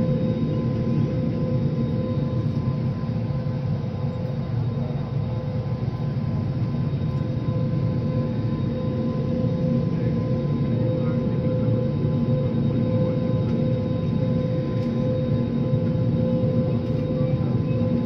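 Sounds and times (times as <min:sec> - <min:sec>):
airliner cabin drone with whine: 0:00.0 - 0:18.0.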